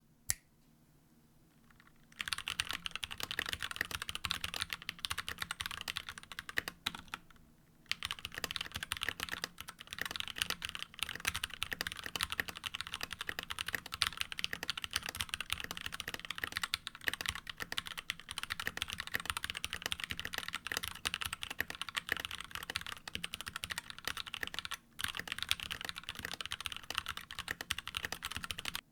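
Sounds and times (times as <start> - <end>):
mechanical keyboard typing: 1.7 - 28.8.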